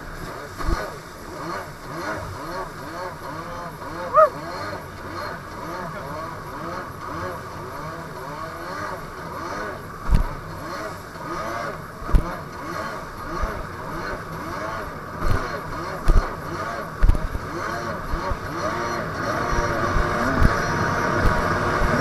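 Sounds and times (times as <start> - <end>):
jet ski engine running: 0.0 - 22.0.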